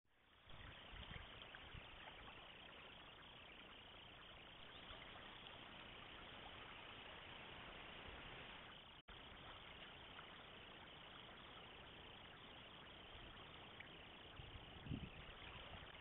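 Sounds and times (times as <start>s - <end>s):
river water flowing: 0.4s - 16.0s.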